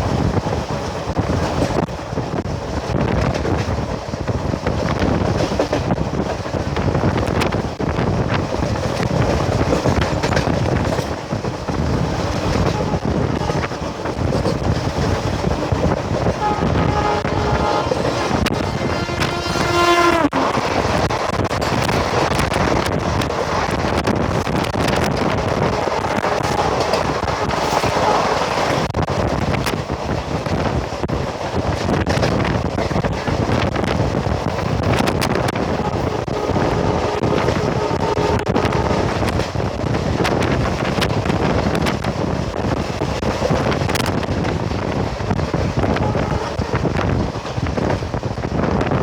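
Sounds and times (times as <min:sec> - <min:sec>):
moving train noise: 0:00.0 - 0:49.0
wind buffeting microphone: 0:00.0 - 0:49.0.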